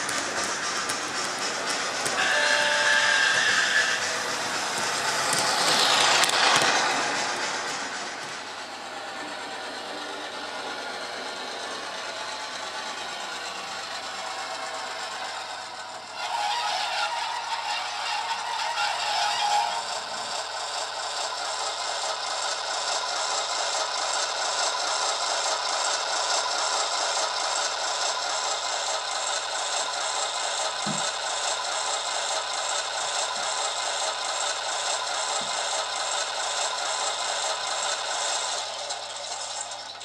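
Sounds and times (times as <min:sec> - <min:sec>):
rattle of model wheels and motor: 0:00.0 - 0:08.5, 0:15.7 - 0:40.0
diesel railcar engine from small speaker: 0:00.0 - 0:40.0.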